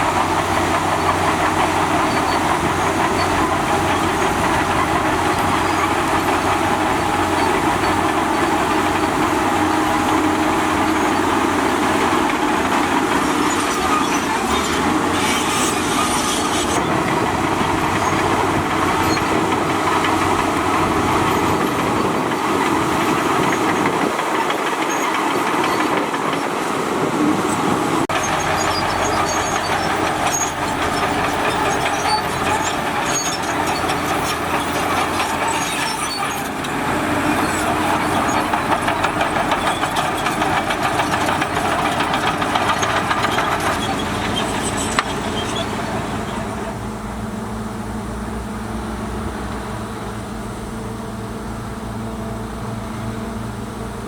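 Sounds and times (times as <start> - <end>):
metallic track clatter: 0.0 - 46.8
diesel engine running: 0.0 - 54.0.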